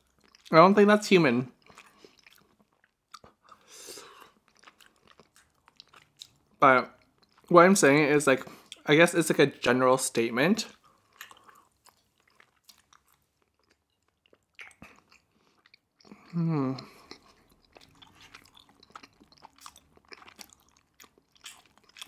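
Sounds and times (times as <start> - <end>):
mouth chewing food: 0.0 - 0.5, 1.5 - 7.5, 10.7 - 22.0.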